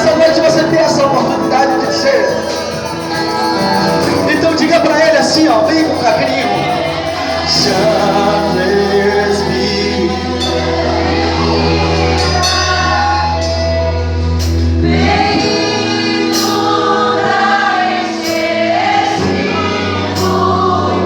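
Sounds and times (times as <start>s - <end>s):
group singing worship song: 0.0s - 21.0s
keyboard and bass: 0.0s - 21.0s.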